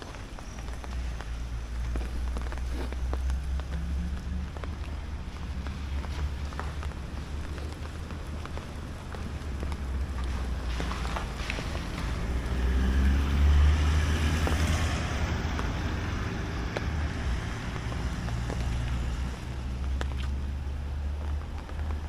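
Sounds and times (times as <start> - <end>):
raindrops ticking on device: 0.0 - 22.0
steady rain: 0.0 - 22.0
wind rumbling on microphone: 0.0 - 22.0.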